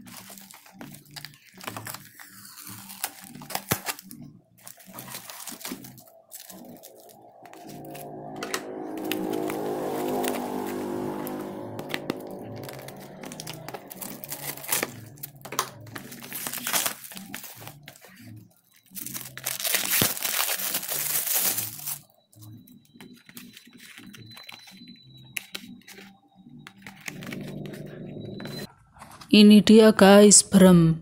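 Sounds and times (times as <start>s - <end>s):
plastic wrapping crinkling and tearing: 0.0s - 26.1s.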